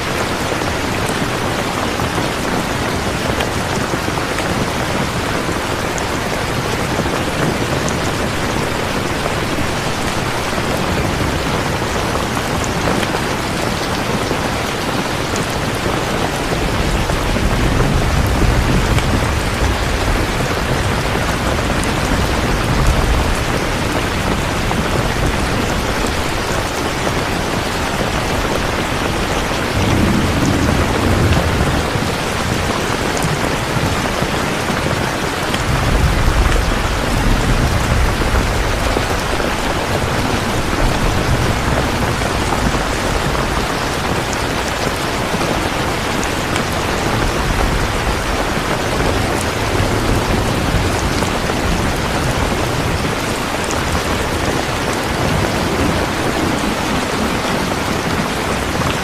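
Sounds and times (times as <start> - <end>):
heavy rain falling: 0.0 - 59.0
distant thunder rumbling: 0.6 - 59.0.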